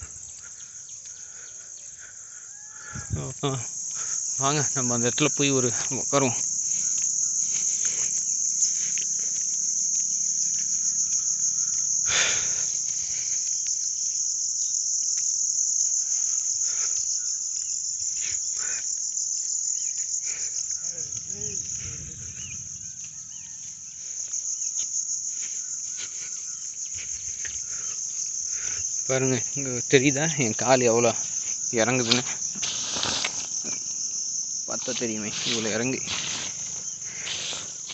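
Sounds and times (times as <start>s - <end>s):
insect chorus trilling: 0.0s - 37.9s.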